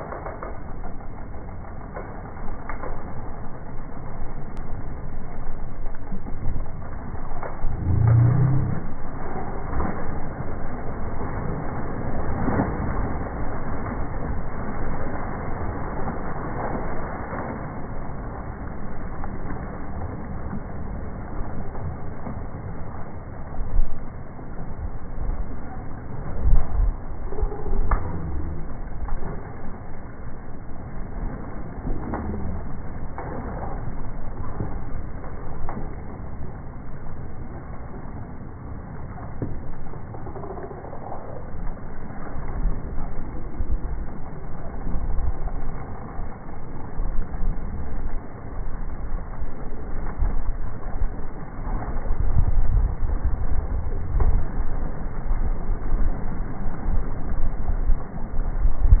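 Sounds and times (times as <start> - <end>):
deep rumbling water wash: 0.0 - 59.0.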